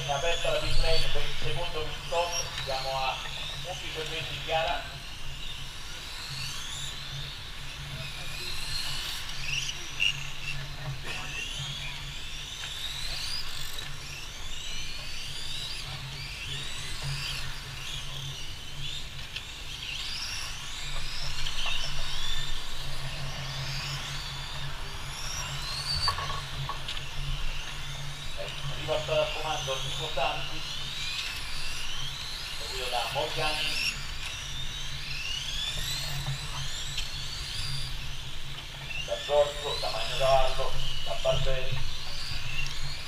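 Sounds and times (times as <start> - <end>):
model car motors whining: 0.0 - 43.0.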